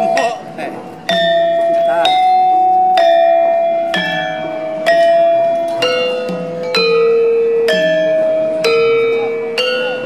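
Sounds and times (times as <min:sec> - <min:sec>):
gamelan slow ringing melody: 0:00.0 - 0:10.0.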